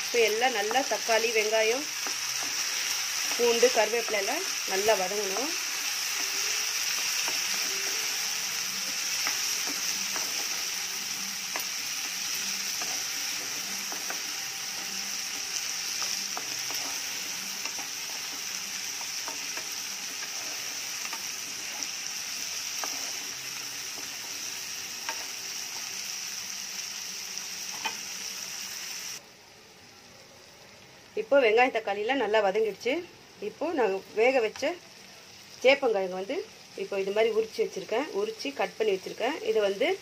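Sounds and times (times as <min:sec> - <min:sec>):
vegetables sizzling in oil: 0:00.0 - 0:40.0.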